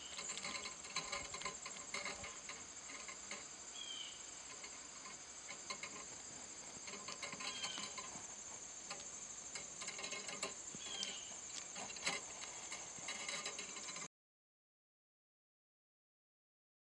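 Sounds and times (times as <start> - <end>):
high-pitched insect trill: 0.0 - 14.1
squirrel gnawing and scraping: 0.0 - 14.1.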